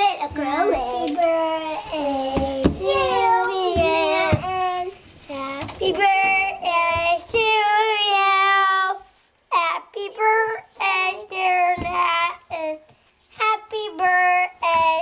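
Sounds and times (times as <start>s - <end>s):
young child singing: 0.0s - 12.8s, 13.4s - 15.0s.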